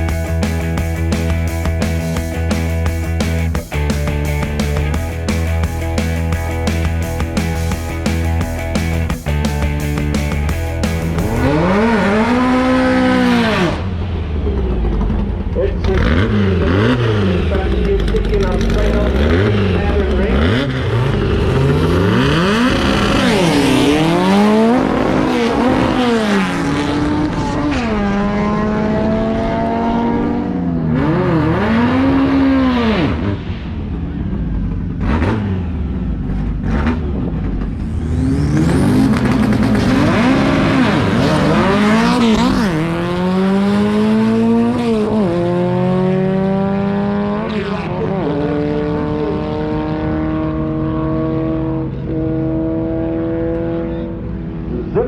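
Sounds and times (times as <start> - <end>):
drag race car revving: 0.0 - 55.0
race car accelerating hard: 9.8 - 55.0.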